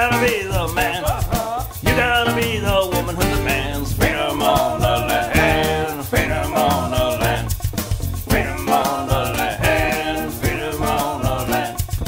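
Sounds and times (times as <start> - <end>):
upbeat song: 0.0 - 12.0.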